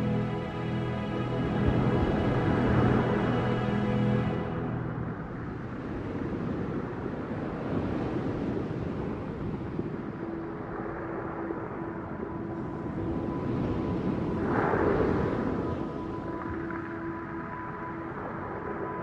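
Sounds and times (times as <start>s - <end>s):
low rushing ocean noise: 0.0s - 19.0s.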